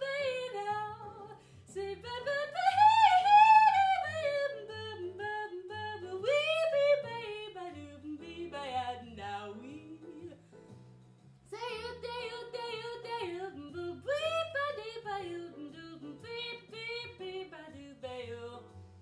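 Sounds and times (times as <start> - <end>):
jazz backing track: 0.0 - 19.0.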